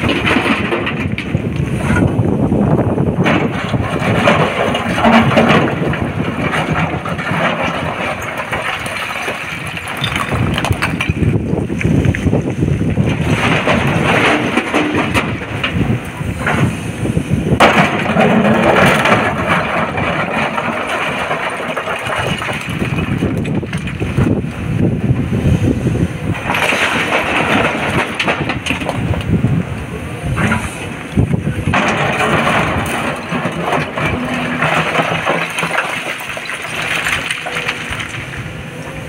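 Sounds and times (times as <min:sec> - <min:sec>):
excavator engine and hydraulics: 0:00.0 - 0:39.0.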